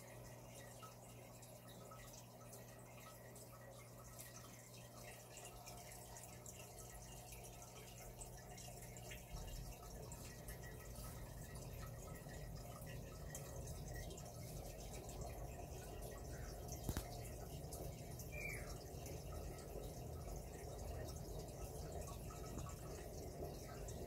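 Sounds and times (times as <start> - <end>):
aquarium water bubbling and dripping: 0.0 - 24.0
low pump hum: 0.0 - 24.0.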